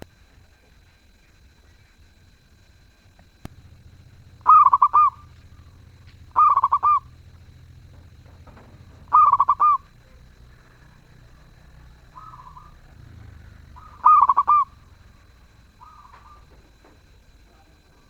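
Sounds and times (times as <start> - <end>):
dove cooing: 3.0 - 18.0.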